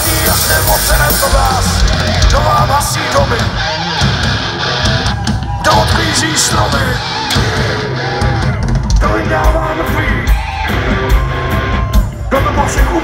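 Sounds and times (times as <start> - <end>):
heavy metal band playing live: 0.0 - 13.0.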